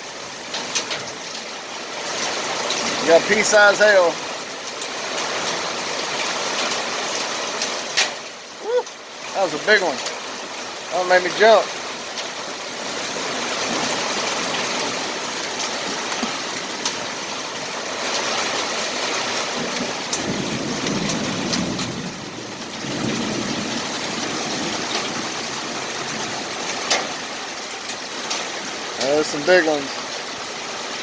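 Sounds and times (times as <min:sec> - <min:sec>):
rush of hail and rain: 0:00.0 - 0:31.0
hailstones pinging on hard surfaces: 0:00.2 - 0:31.0.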